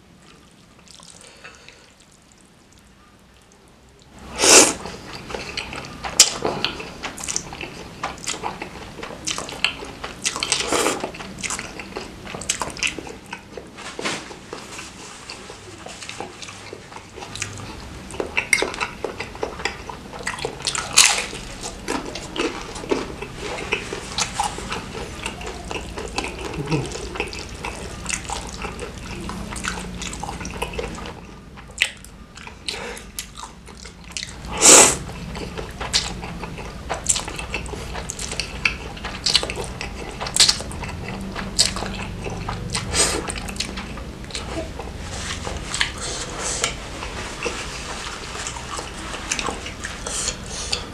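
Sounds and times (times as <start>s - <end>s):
wet chewing and slurping: 0.2s - 2.9s, 4.0s - 50.9s.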